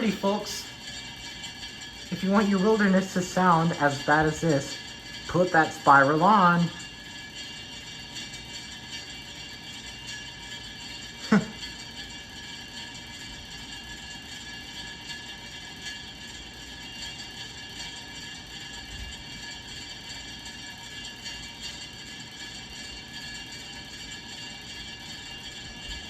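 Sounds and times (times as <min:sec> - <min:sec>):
ceiling fan scraping and whining: 0:00.0 - 0:26.0.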